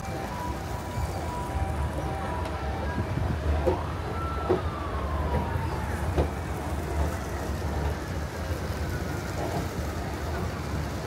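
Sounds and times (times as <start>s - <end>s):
distant siren-like tone: 0.0s - 10.8s
city traffic rumble: 0.0s - 11.0s.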